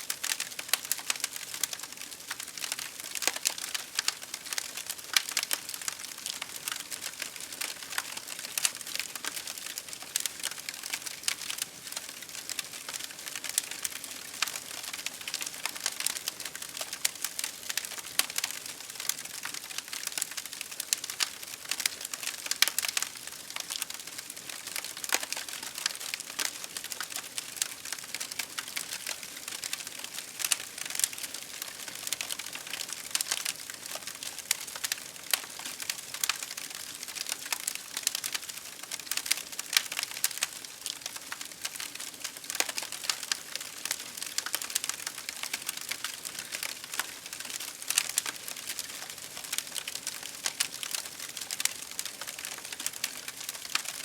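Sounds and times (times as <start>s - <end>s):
campfire crackling and popping: 0.1s - 54.0s.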